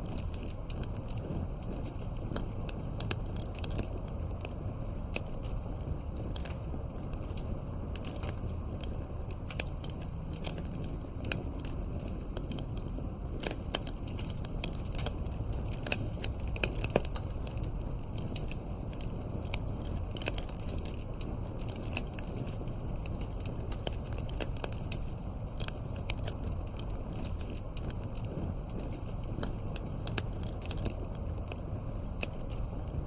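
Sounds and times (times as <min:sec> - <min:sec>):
low rush of flame: 0:00.0 - 0:33.0
wood crackling and popping: 0:00.0 - 0:33.0.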